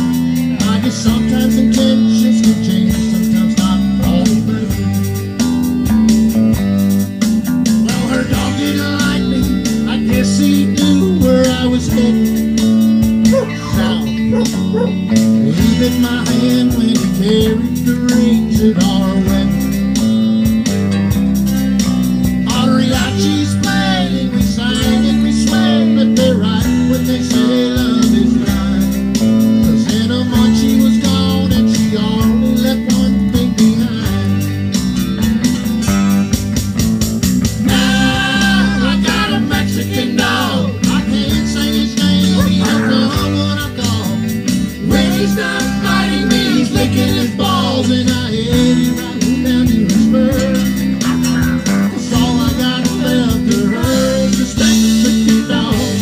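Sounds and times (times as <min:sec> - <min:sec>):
electric bass guitar: 0:00.0 - 0:56.0
guitar: 0:00.0 - 0:56.0.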